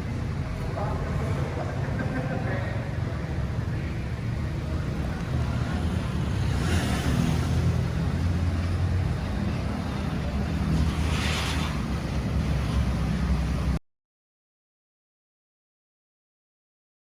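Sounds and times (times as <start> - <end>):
car engine and road rumble: 0.0 - 13.8.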